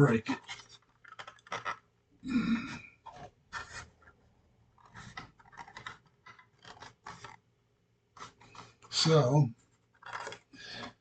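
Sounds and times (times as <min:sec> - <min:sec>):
plastic parts clicking and scratching: 0:00.0 - 0:11.0.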